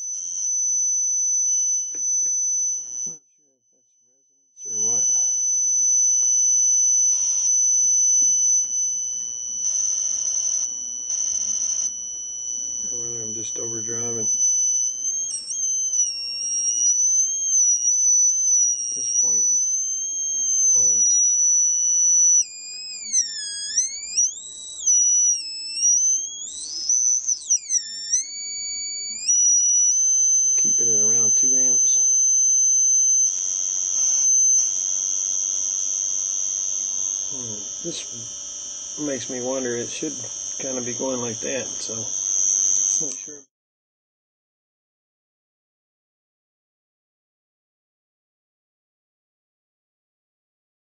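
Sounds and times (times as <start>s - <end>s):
harsh electrical buzz: 0.0s - 3.2s, 4.6s - 43.4s
high-pitched electronic whine: 0.0s - 3.6s, 4.6s - 43.5s.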